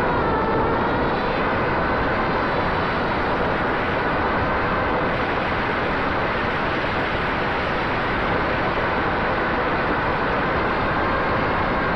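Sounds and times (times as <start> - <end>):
faint whine: 0.0 - 11.9
wind noise on microphone: 0.0 - 11.9.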